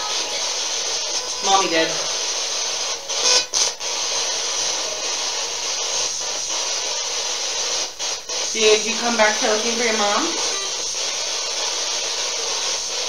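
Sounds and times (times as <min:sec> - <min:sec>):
choppy radio signal snatches: 0:00.0 - 0:13.0
radio static hiss: 0:00.0 - 0:13.0.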